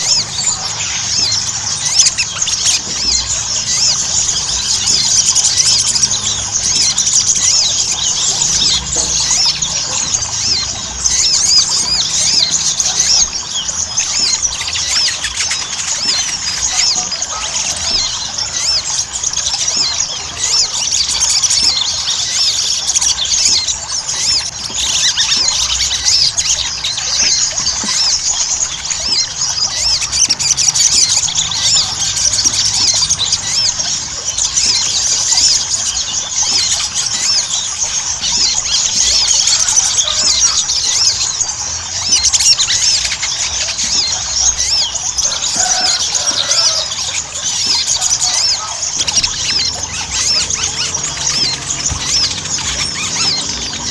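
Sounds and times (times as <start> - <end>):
bird chirping and twittering: 0.0 - 53.9.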